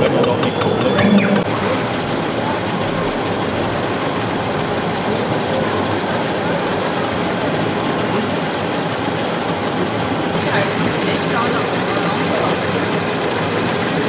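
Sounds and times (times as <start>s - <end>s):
exhibition hall din: 0.0s - 14.0s
mechanical running noise: 0.0s - 14.0s.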